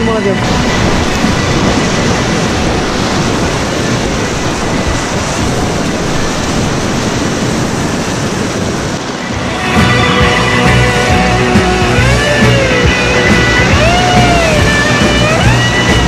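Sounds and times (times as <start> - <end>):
whitewater rushing: 0.0 - 16.0.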